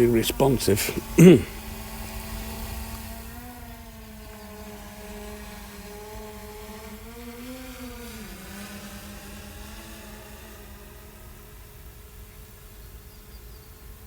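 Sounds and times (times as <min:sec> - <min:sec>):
drone propellers whining: 0:00.0 - 0:13.1.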